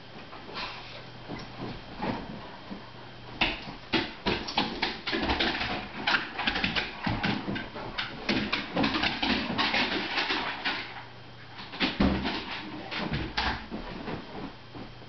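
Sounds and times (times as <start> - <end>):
dogs scuffling and thumping: 0.0 - 15.0.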